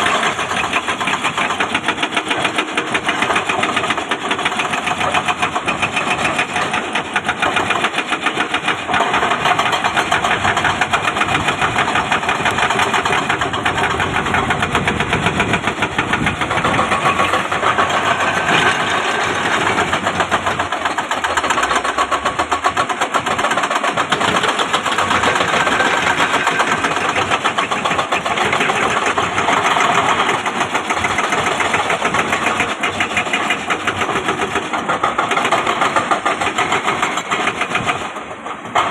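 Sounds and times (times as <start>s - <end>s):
excavator diesel engine knocking: 0.0s - 38.9s.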